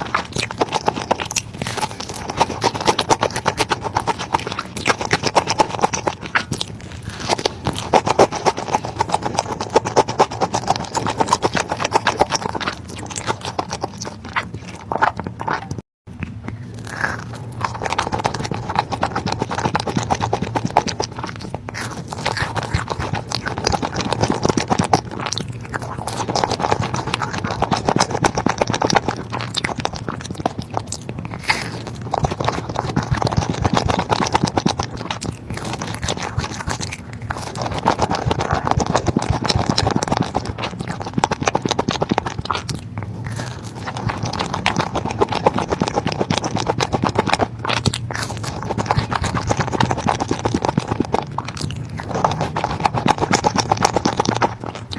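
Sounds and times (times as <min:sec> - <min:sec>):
food being bitten and chewed: 0:00.0 - 0:54.9.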